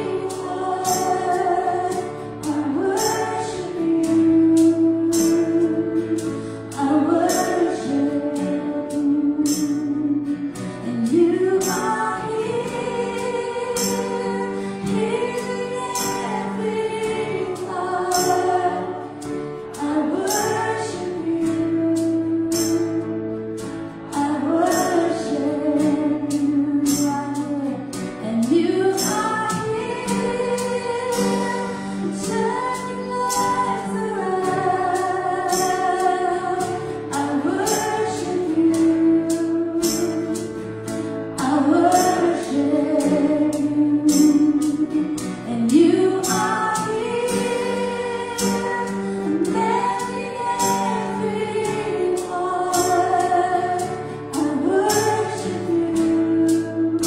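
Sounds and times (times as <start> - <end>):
acoustic guitar: 0.0 - 57.0
keyboard: 0.0 - 57.0
women singing: 0.0 - 57.0.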